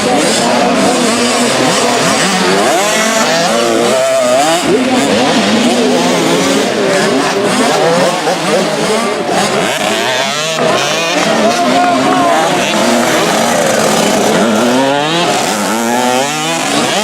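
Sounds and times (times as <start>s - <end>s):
motocross bikes revving: 0.0s - 17.0s.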